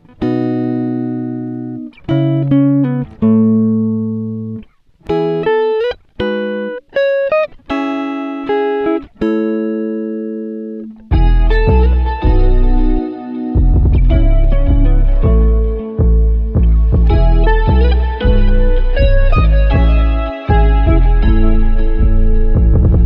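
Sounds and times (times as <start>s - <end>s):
guitar plucking slow notes: 0.0s - 23.0s.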